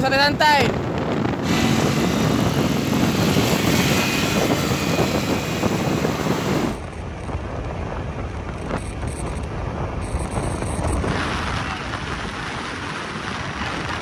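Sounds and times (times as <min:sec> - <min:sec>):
wind noise on microphone: 0:00.0 - 0:14.0
motorcycle engine droning: 0:00.9 - 0:12.8.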